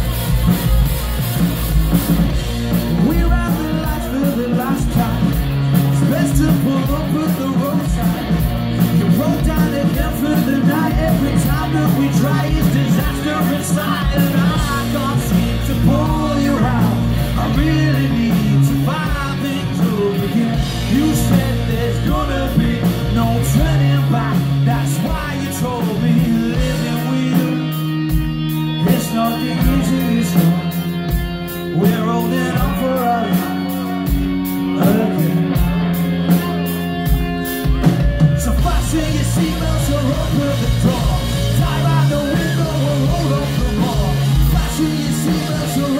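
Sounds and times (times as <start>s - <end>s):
rock band playing live: 0.0s - 45.9s
person singing lead vocal: 2.7s - 36.9s, 37.6s - 45.9s.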